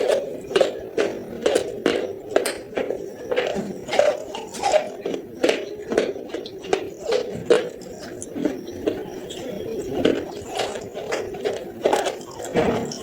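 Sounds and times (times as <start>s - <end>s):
clay pieces crunching when chewed: 0.0s - 13.0s.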